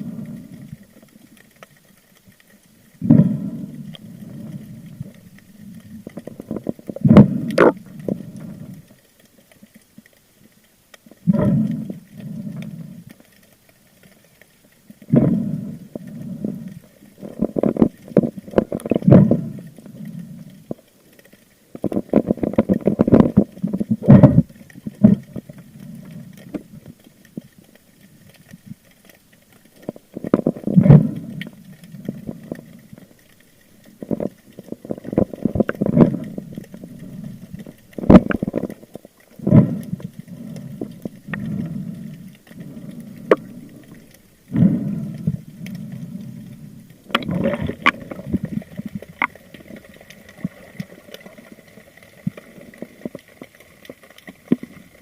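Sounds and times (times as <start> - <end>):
muffled water sloshing and gurgling: 0.0 - 55.0.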